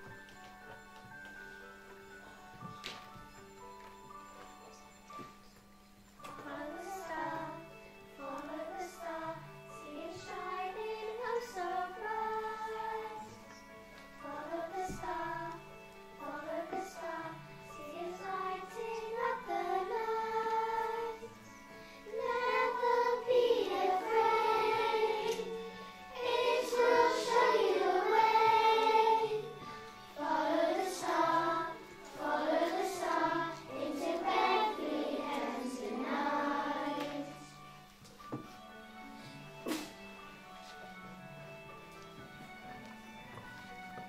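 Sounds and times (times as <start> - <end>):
children singing with accompaniment: 2.2 - 41.2.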